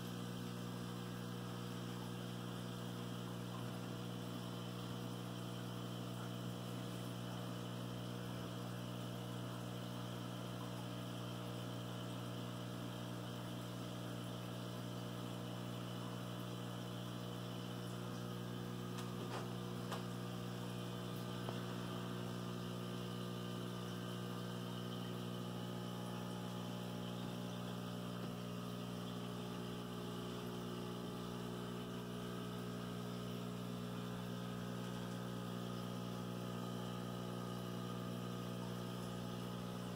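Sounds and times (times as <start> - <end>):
aquarium equipment hum: 0.0 - 39.9.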